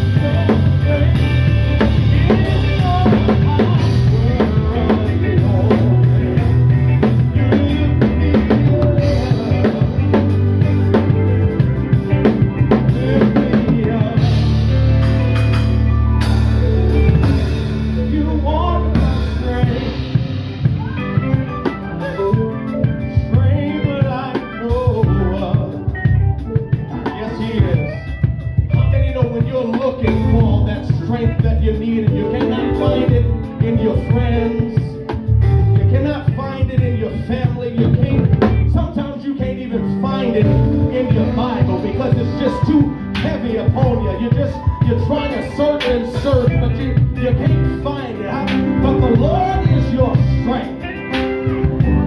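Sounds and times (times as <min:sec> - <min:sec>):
drum kit beat: 0:00.0 - 0:52.0
electric guitar: 0:00.0 - 0:52.0
held low notes: 0:00.0 - 0:52.0.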